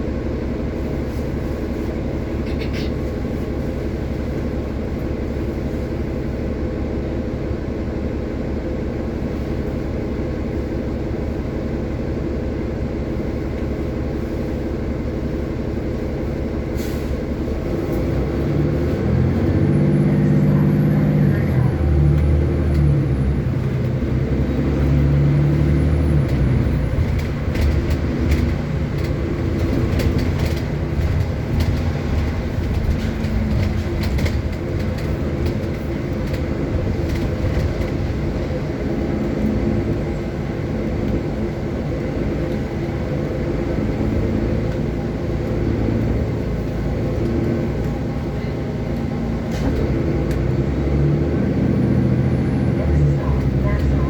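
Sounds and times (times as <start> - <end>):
bus engine and road drone: 0.0 - 54.0.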